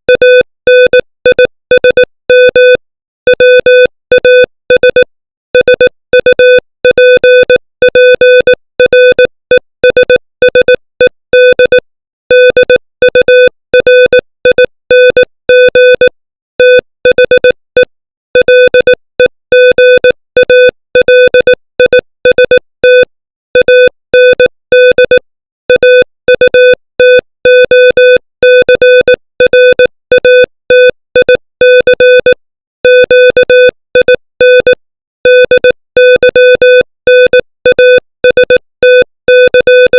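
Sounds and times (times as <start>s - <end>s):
morse code beeps: 0.1s - 10.8s, 11.4s - 39.9s.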